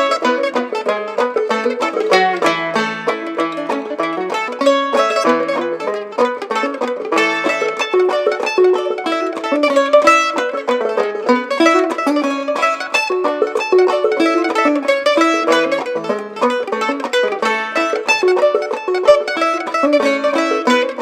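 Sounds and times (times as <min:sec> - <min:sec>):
clawhammer banjo: 0:00.0 - 0:21.0
mandolin: 0:00.0 - 0:21.0.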